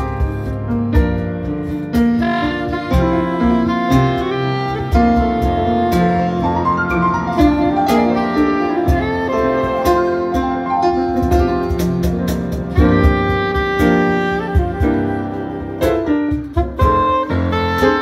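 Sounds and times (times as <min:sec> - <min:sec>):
grand piano accompaniment: 0:00.0 - 0:18.0
soprano saxophone jazz melody: 0:00.0 - 0:18.0.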